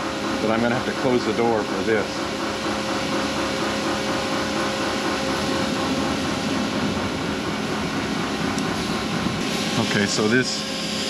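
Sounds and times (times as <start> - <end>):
grinder machine hum: 0.0 - 11.0.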